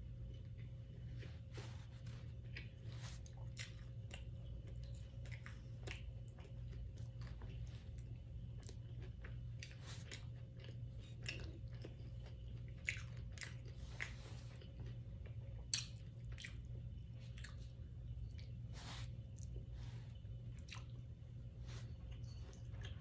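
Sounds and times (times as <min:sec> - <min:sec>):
low hum: 0:00.0 - 0:23.0
wet chewing smacks: 0:00.2 - 0:23.0.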